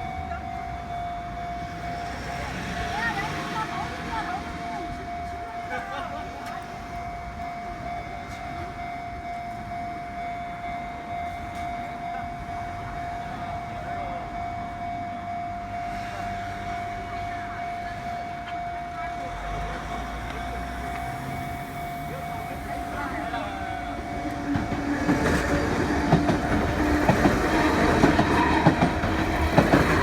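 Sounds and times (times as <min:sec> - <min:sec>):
level crossing alarm: 0:00.0 - 0:30.0
train rumbling: 0:00.0 - 0:30.0.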